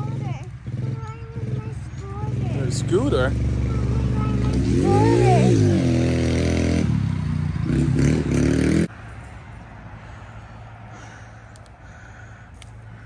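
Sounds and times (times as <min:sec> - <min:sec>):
dirt bike engine idling and revving: 0:00.0 - 0:13.0.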